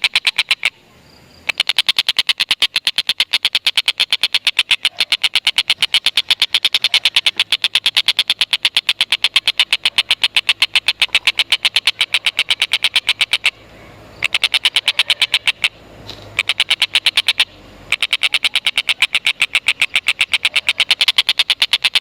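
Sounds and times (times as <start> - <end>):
kingfisher chattering call: 1.4 - 15.8, 16.4 - 22.0.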